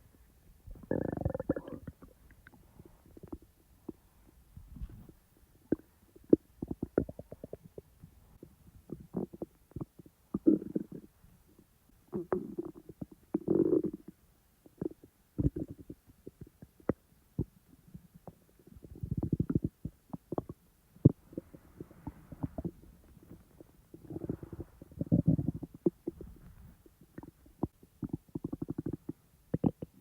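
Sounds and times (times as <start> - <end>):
stomach gurgling and rumbling: 0.0 - 30.0.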